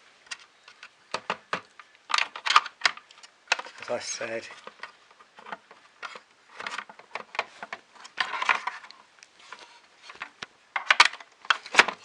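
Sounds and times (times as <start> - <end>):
plastic parts clicking: 0.2 - 12.0.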